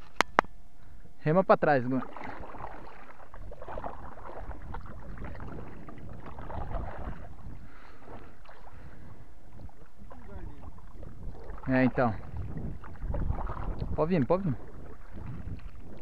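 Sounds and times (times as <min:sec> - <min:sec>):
paddle splashing in water: 0:01.9 - 0:16.0.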